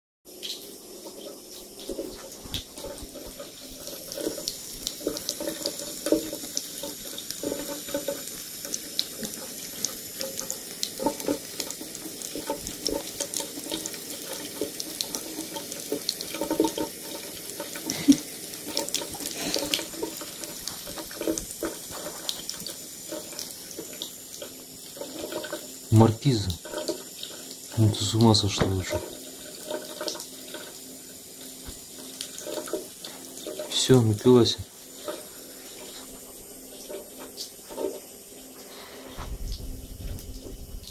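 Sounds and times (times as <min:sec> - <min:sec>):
tap running into sink: 0:00.3 - 0:33.8, 0:35.0 - 0:38.1, 0:39.2 - 0:40.9
cat lapping water: 0:00.6 - 0:40.8.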